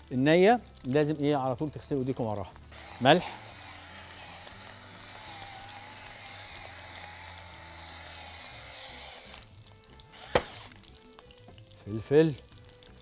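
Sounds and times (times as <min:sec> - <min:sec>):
chicken skin sizzling in a pan: 0:00.0 - 0:13.0.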